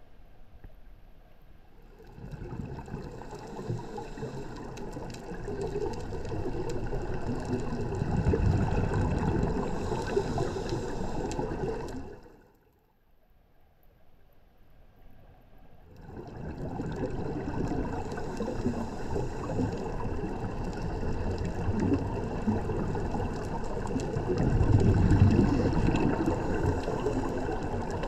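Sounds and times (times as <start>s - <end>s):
air bubbles gurgling underwater: 1.9s - 12.5s, 15.9s - 28.0s.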